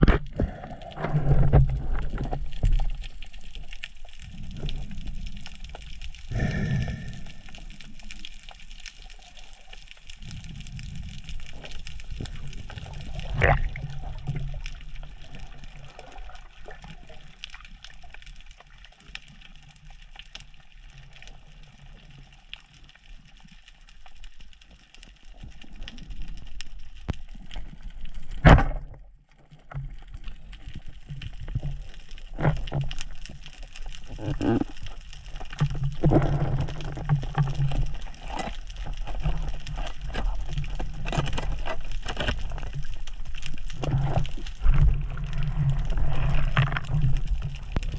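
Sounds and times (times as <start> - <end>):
muffled underwater movement: 0.0 - 47.9.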